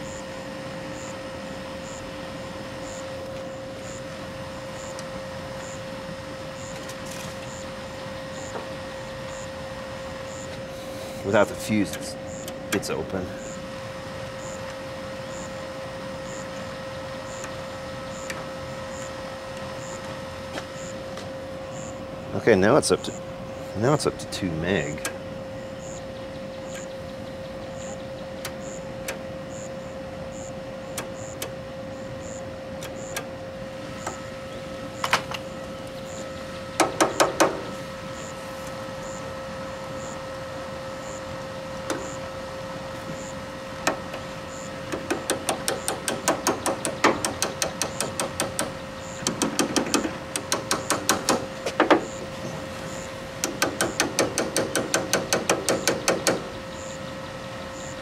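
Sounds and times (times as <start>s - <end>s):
faint hum: 0.0s - 58.0s.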